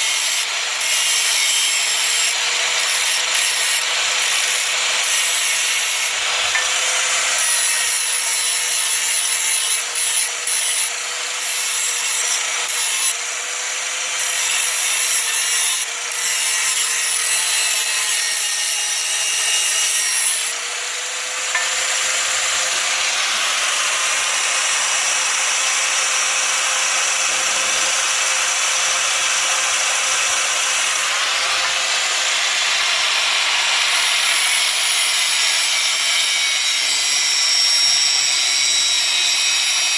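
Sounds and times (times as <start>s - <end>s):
electric grinder grinding metal: 0.0s - 39.9s.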